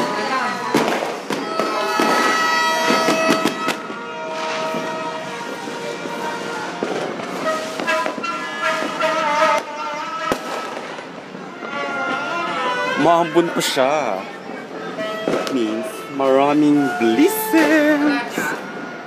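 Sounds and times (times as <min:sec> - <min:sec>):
firecrackers banging and popping: 0:00.0 - 0:19.0.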